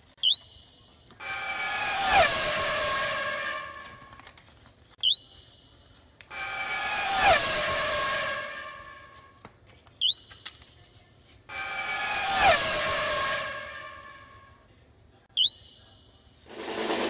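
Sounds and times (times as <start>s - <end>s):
high swooping whistle: 0.2s - 4.2s, 5.0s - 9.3s, 10.0s - 14.5s, 15.4s - 16.9s.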